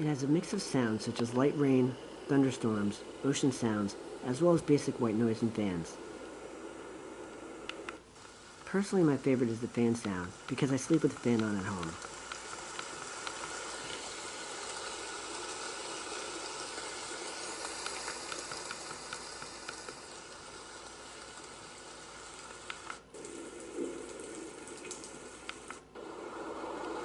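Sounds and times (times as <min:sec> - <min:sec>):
white noise machine water sound: 0:00.0 - 0:27.0.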